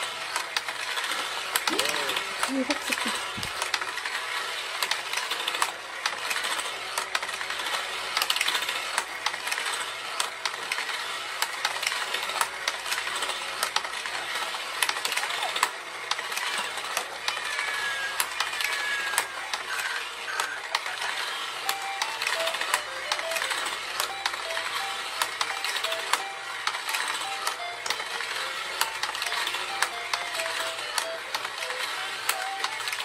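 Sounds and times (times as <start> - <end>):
plastic toy clatter and rattle: 0.0 - 33.0
toy motor turning: 0.0 - 33.0.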